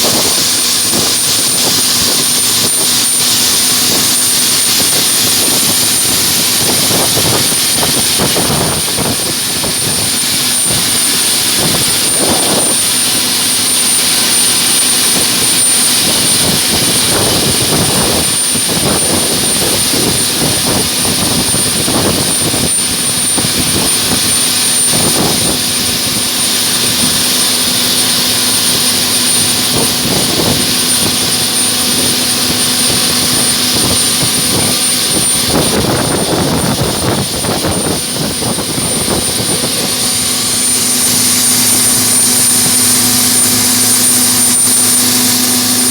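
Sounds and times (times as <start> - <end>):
high-pitched whine: 0.0 - 45.9
jet engines running: 0.0 - 45.9.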